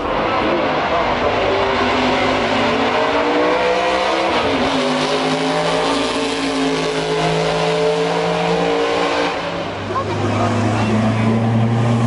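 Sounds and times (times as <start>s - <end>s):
racing car engine: 0.0s - 12.0s.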